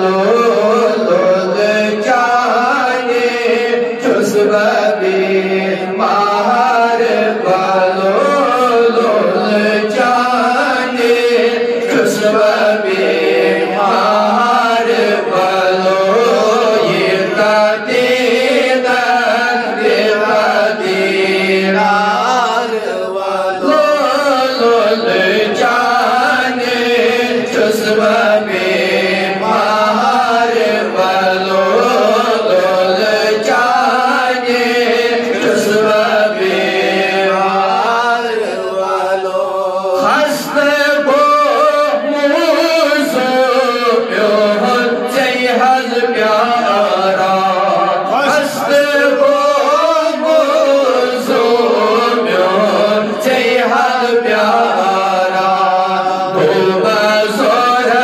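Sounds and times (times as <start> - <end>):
man singing into microphone: 0.0 - 58.0.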